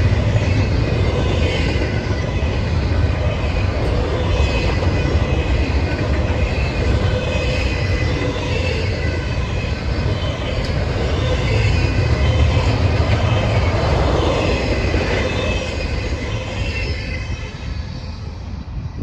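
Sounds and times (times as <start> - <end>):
train wheels rumbling on rail: 0.0 - 19.0
high-pitched wheel squeal: 3.2 - 18.5.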